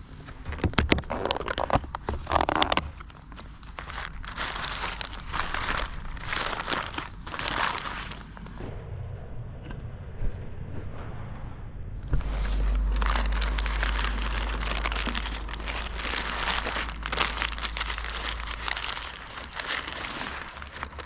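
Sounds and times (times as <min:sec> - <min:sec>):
crackling rustling on microphone: 0:00.0 - 0:08.6, 0:12.0 - 0:21.0
deep rumble: 0:00.0 - 0:21.0.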